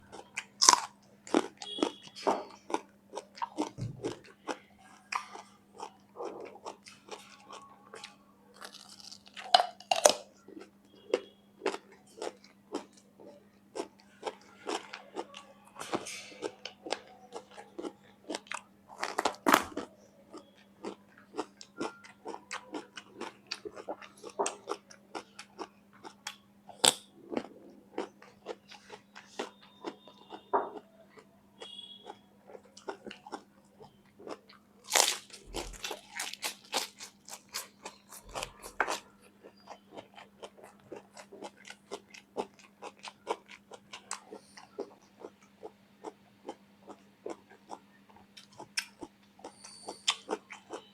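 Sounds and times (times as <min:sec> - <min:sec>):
faint low hum: 0:00.0 - 0:50.9
person chewing raw vegetables: 0:00.0 - 0:50.9.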